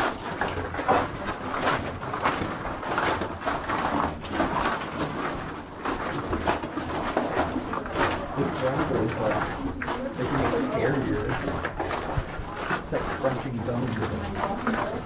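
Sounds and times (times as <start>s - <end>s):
footsteps in stone tunnel: 0.0s - 15.0s.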